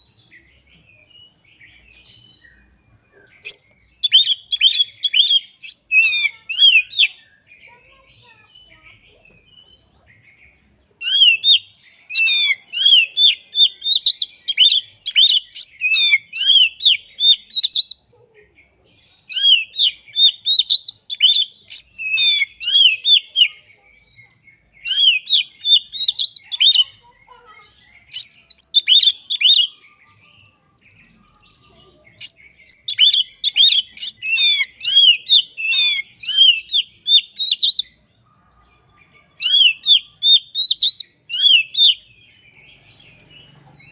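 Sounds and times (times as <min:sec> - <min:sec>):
magpie-robin singing: 0:00.0 - 0:43.9.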